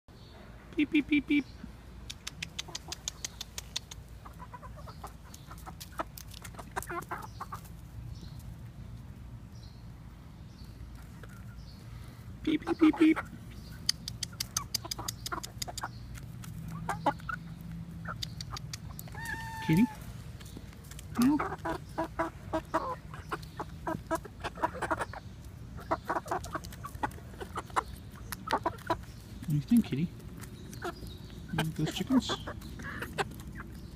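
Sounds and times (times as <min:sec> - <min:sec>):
chickens clucking: 0:00.3 - 0:09.3, 0:10.6 - 0:33.9.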